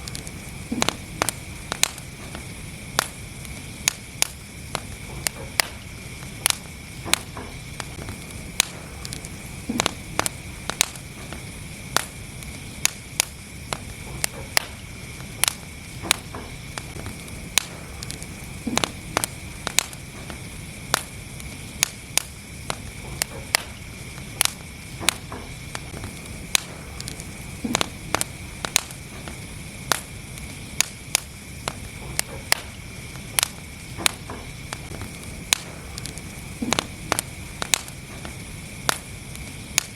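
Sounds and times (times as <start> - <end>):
fire crackling and popping: 0.0 - 39.9
low rush of flames: 0.0 - 39.9.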